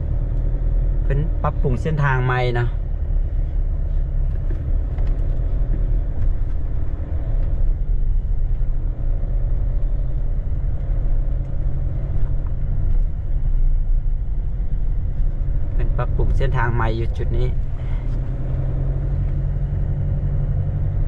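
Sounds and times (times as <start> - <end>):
vehicle rumbling slowly: 0.0 - 21.0.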